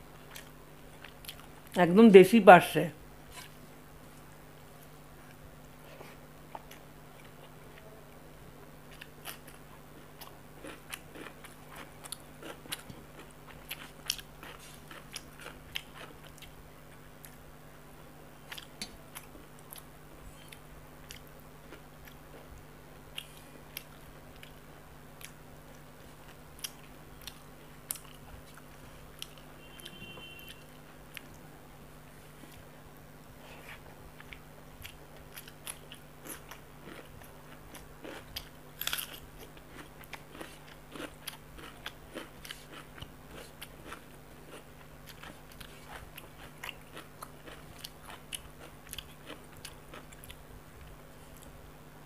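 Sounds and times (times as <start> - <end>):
faint steady hum: 0.0 - 52.0
person chewing and crunching: 0.2 - 1.8, 3.3 - 7.9, 8.8 - 17.4, 18.4 - 31.4, 33.4 - 51.6.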